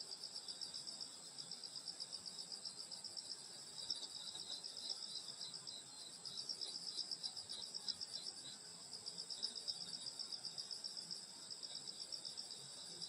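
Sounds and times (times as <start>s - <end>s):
crickets trilling: 0.2s - 13.0s.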